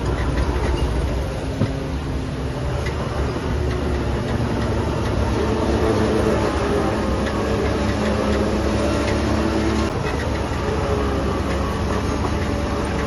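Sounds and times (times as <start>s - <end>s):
diesel machinery engine running: 0.0s - 13.0s.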